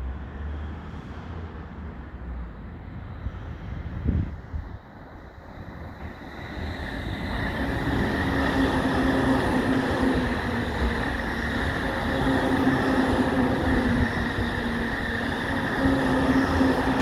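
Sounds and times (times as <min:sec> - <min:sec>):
electric train running by: 0:00.2 - 0:17.0.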